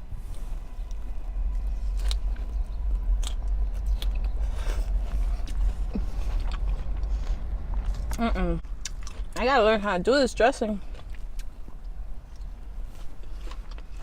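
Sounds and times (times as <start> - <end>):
steady low rumble: 0.0 - 14.0
person chewing crunchy food: 0.9 - 9.4, 10.8 - 14.0.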